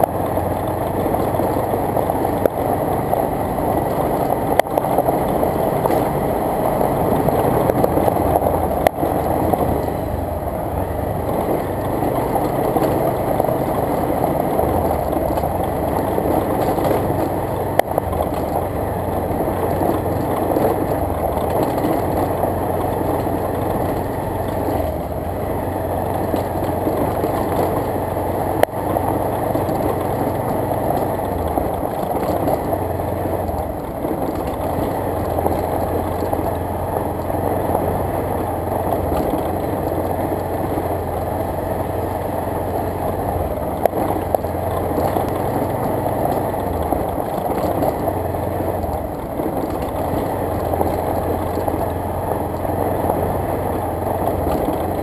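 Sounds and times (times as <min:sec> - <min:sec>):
motorcycle engine running: 0:00.0 - 0:55.0
tyres on gravel: 0:00.0 - 0:55.0.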